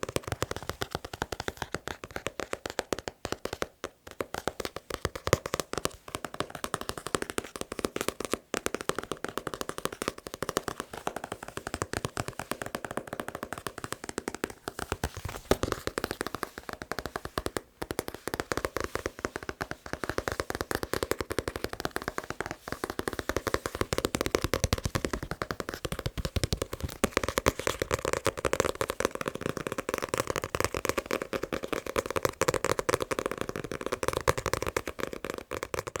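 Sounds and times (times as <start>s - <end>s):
fingers tapping on a book: 0.0s - 36.0s.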